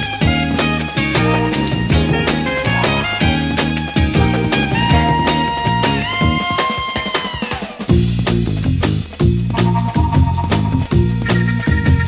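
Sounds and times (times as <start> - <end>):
bass line: 0.0 - 6.6, 7.9 - 12.0
steady drum beat: 0.0 - 12.0.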